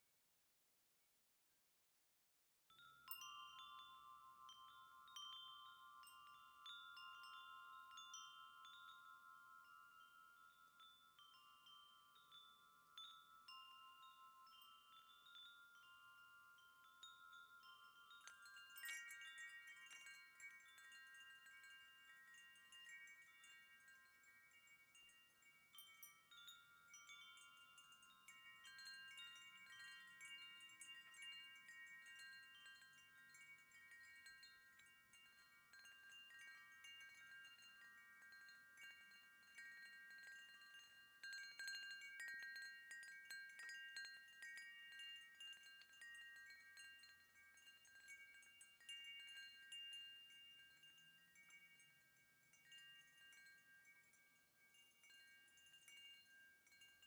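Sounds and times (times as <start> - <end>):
wind chime ringing: 2.7 - 57.0.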